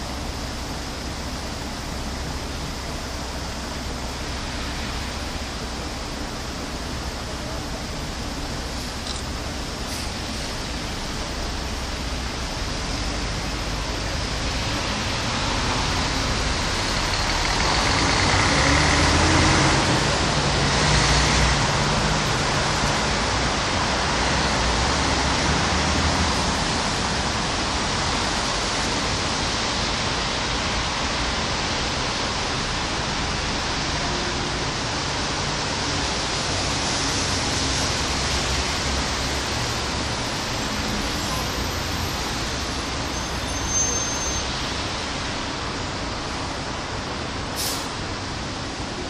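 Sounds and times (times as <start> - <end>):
steady rain falling: 0.0 - 49.0
vehicles passing on wet street: 0.0 - 49.0.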